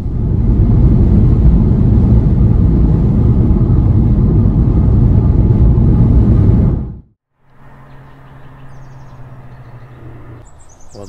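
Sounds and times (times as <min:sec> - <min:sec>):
road and wind noise inside van: 0:00.0 - 0:11.0.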